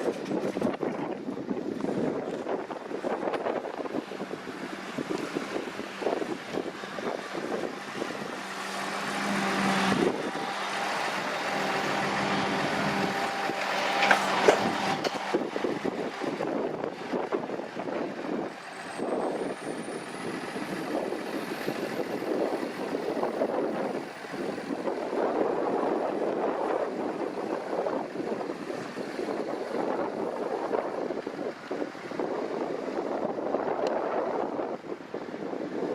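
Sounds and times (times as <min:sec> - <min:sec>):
tractor engine hum: 0:00.0 - 0:35.9
wind on microphone: 0:00.0 - 0:35.9.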